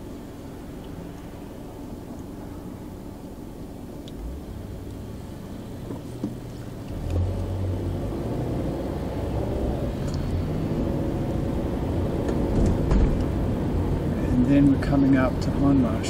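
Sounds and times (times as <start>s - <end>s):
car engine: 0.0s - 16.0s
road noise inside car: 0.0s - 16.0s.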